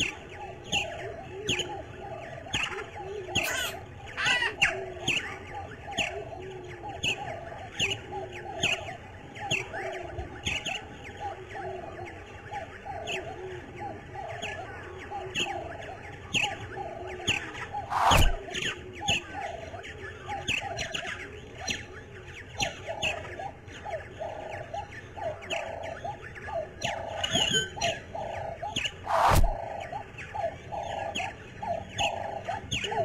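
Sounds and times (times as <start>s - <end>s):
birds chirping: 0.0s - 33.0s
lower repeated bird calls: 0.0s - 33.0s.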